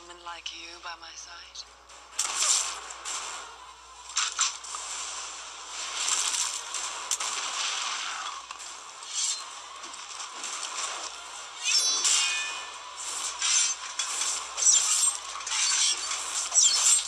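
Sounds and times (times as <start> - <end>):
sharp crack: 1.8 - 17.0.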